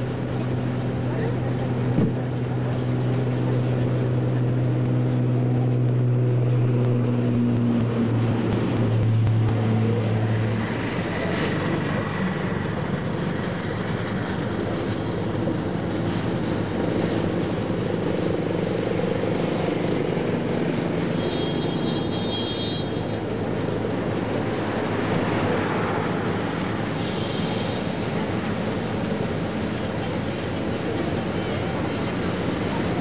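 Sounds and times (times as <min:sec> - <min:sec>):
road traffic rushing past: 0:00.0 - 0:33.0.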